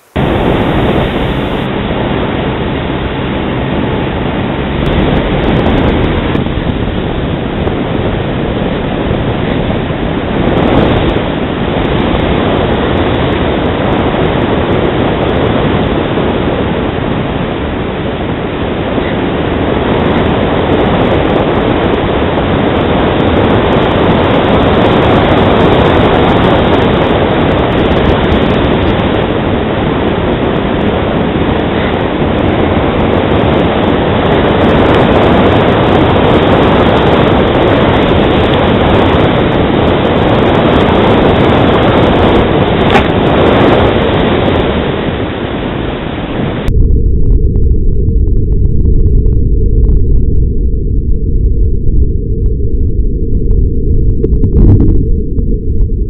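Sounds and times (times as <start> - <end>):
wind roar over microphone: 0.0 - 56.0.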